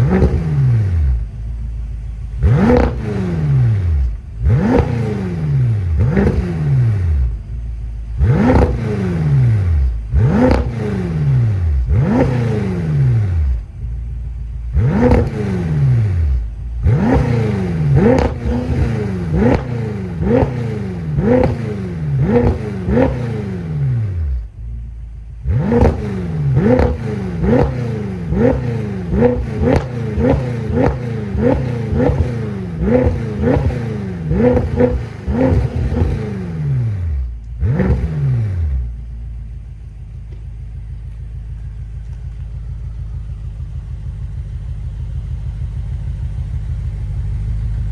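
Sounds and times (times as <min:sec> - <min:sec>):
car engine revving in blips: 0:00.0 - 0:46.2.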